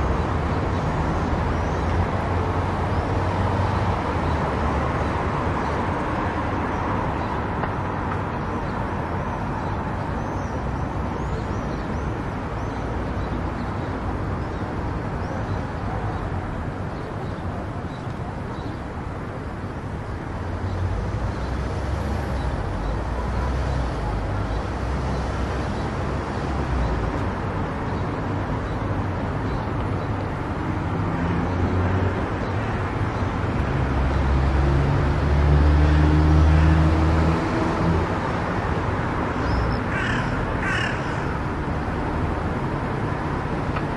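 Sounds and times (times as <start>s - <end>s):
car road and tyre noise: 0.0s - 43.9s.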